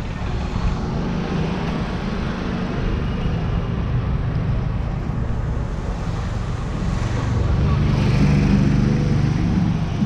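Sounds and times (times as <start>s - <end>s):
cars passing: 0.0s - 10.0s.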